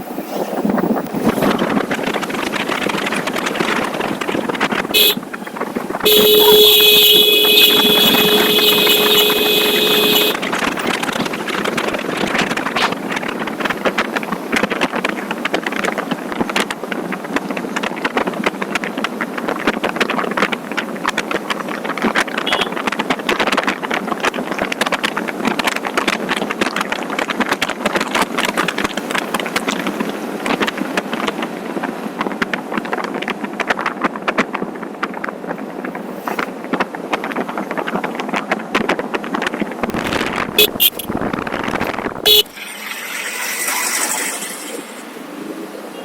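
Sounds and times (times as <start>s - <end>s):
wind buffeting microphone: 0.0s - 42.5s
motorcycle noise: 0.0s - 46.0s.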